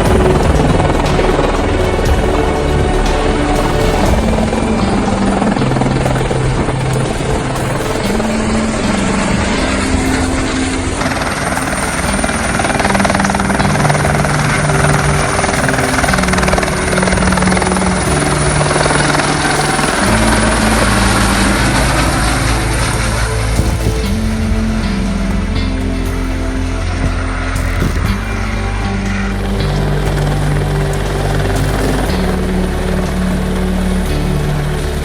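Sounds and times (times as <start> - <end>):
background music with bass notes: 0.0 - 35.0
helicopter rotor and turbine noise: 0.0 - 35.0
thin high whine: 0.0 - 35.0.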